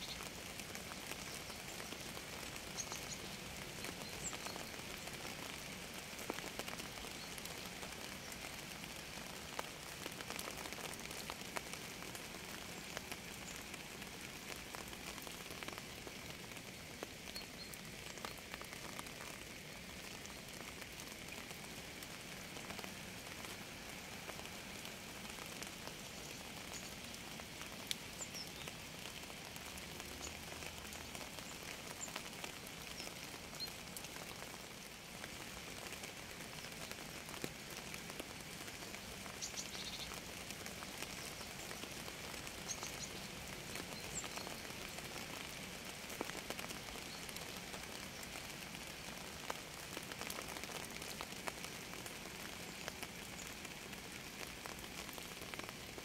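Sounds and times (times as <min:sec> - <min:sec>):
raindrops ticking on a surface: 0:00.0 - 0:56.0
steady rain: 0:00.0 - 0:56.0.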